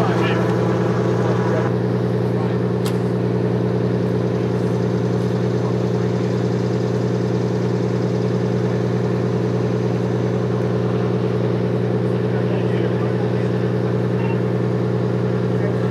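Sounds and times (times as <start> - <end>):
large engine idling: 0.0 - 15.9.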